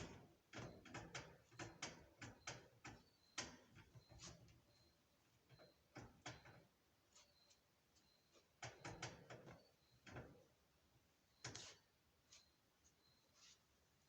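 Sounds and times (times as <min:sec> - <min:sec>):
faint knocks and rubs: 0:00.0 - 0:10.6, 0:11.4 - 0:13.7.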